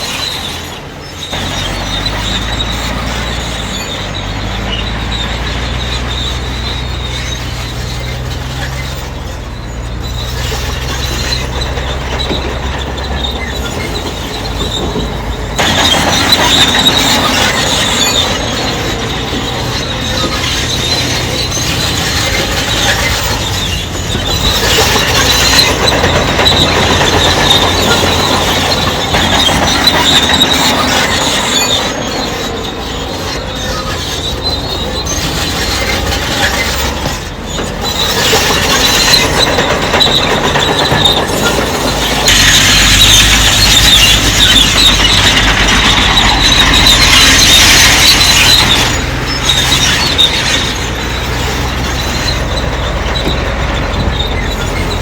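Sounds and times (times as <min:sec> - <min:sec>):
diesel engine running: 0:00.0 - 0:55.0
steel tracks squealing: 0:00.0 - 0:55.0.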